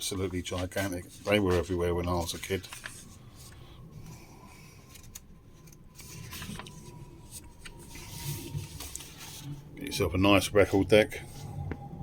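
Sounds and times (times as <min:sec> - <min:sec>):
magazine pages rustling: 0:00.0 - 0:11.6
faint steady hum: 0:00.0 - 0:12.0.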